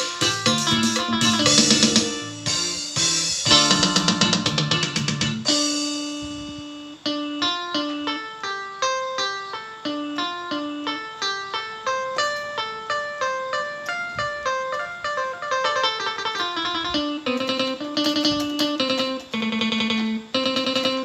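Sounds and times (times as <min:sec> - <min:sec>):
electronic keyboard melody: 0:00.0 - 0:21.0
rhythmic keyboard accompaniment: 0:00.0 - 0:21.0.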